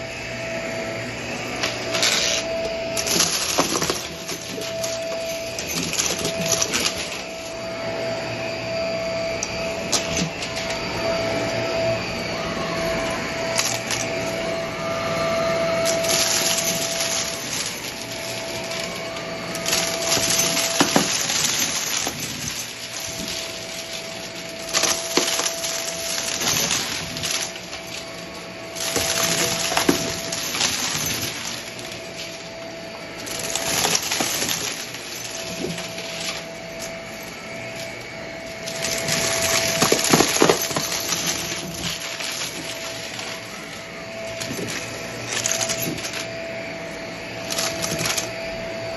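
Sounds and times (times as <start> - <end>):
vacuum cleaner motor whine: 0.0 - 48.9
beads crackling in vacuum: 1.5 - 7.8, 12.9 - 48.4.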